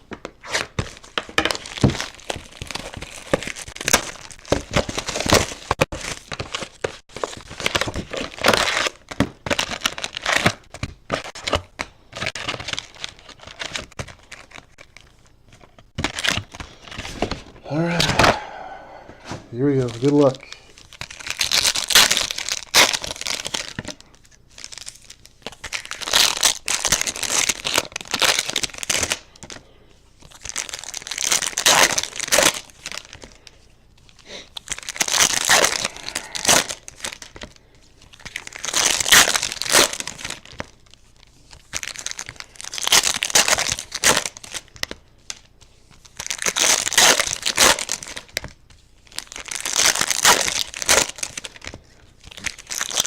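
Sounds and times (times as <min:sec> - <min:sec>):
foil wrappers tearing and crinkling: 0:00.4 - 0:18.4, 0:19.5 - 0:29.6, 0:30.2 - 0:53.0.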